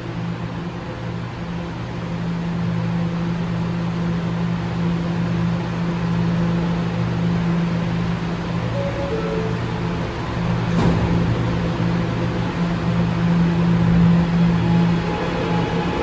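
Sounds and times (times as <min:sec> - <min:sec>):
subway train humming: 0:00.1 - 0:16.0.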